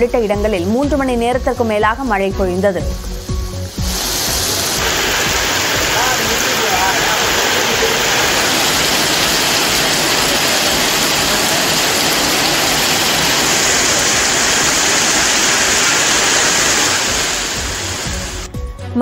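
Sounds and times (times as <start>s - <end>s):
heavy rain on wet pavement: 2.0s - 18.5s.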